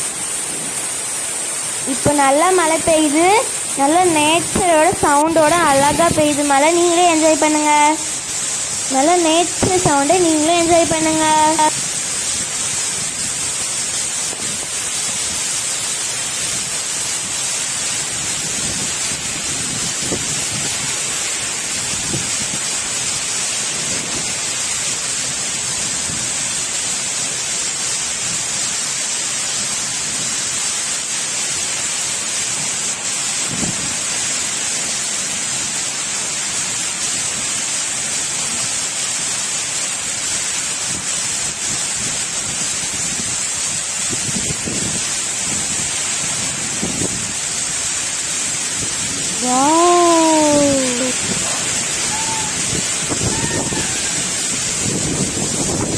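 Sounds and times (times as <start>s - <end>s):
strong wind tossing palms: 0.0s - 28.6s, 29.6s - 55.9s
heavy rain pouring: 0.0s - 55.9s.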